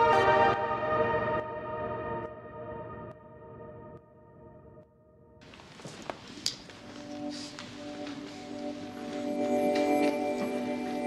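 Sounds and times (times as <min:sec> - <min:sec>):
soft sustained music chord: 0:00.0 - 0:05.4, 0:06.8 - 0:11.0.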